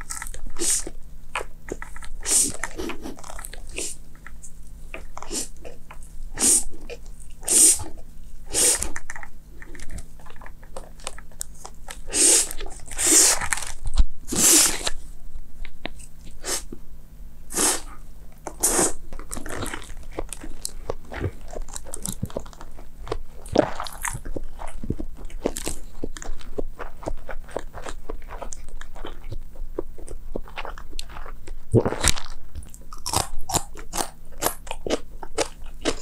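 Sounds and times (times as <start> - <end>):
chewing and crunching noodles: 0.0 - 15.0, 18.4 - 36.0.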